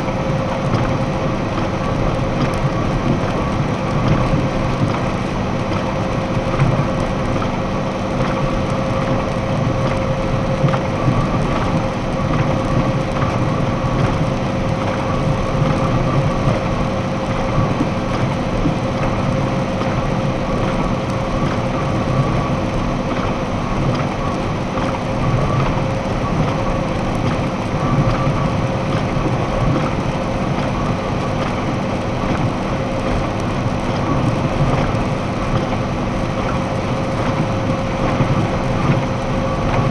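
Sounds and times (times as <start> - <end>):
constant whine: 0.0 - 39.9.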